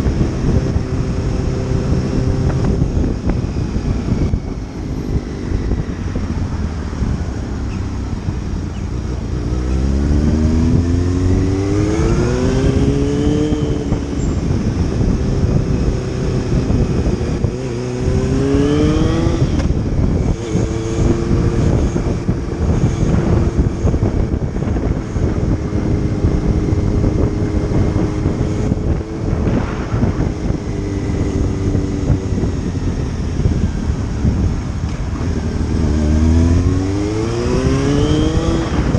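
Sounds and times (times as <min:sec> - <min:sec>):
motorcycle engine accelerating: 0:00.0 - 0:38.9
wind rush on microphone: 0:00.0 - 0:38.9.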